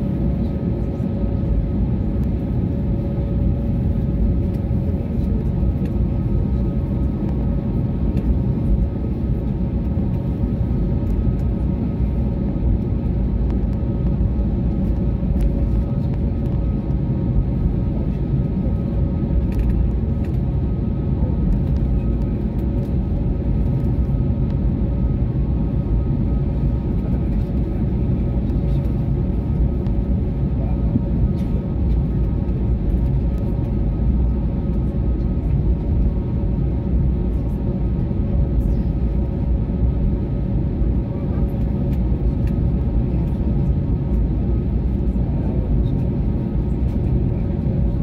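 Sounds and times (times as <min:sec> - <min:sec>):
aircraft rolling rumble: 0:00.0 - 0:48.0
jet engines humming: 0:00.0 - 0:48.0.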